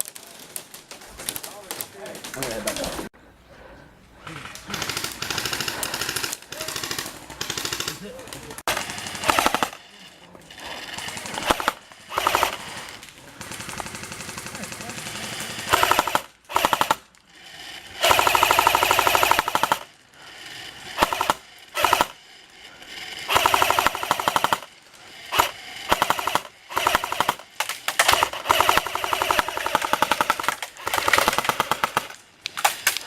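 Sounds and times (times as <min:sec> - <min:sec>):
airsoft guns firing bursts: 0:04.6 - 0:09.9, 0:10.5 - 0:22.2, 0:22.9 - 0:33.0.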